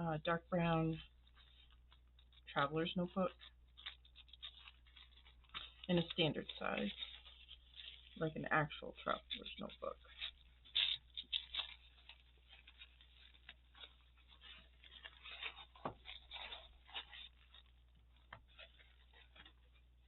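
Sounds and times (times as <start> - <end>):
packaging tearing and crinkling: 1.0 - 20.0.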